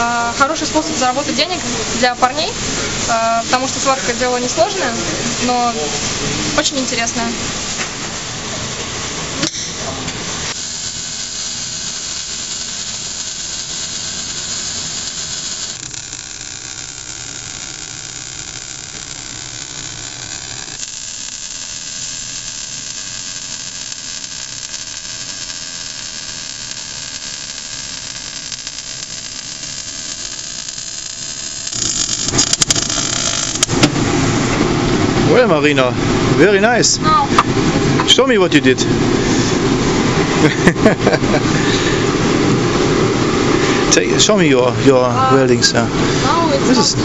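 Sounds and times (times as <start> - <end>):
welding arc hissing and crackling: 0.0 - 47.0.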